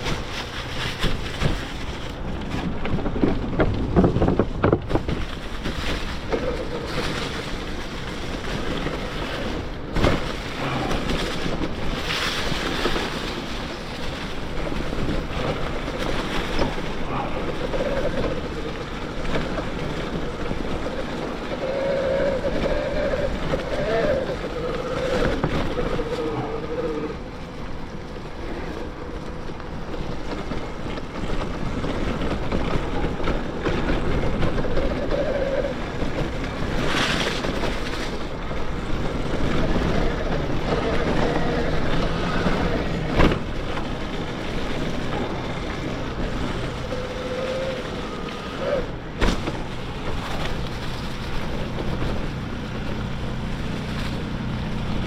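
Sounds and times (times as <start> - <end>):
bike tyre noise: 0.0 - 55.0
wind rush on microphone: 0.0 - 55.0.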